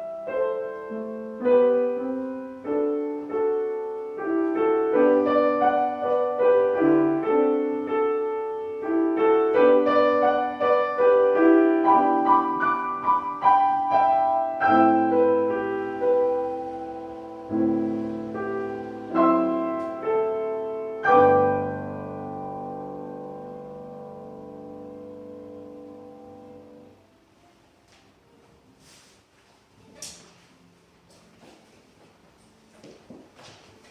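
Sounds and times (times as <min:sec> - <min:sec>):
classical piano: 0:00.0 - 0:33.9.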